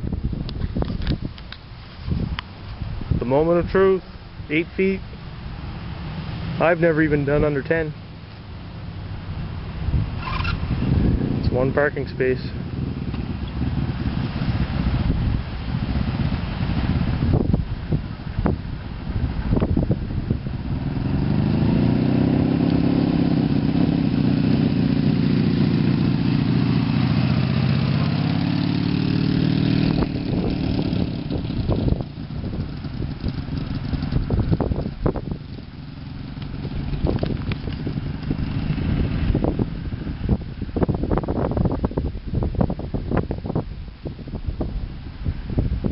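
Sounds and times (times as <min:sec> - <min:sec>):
wind buffeting microphone: 0:00.0 - 0:45.9
motorcycle engine running: 0:06.6 - 0:45.9.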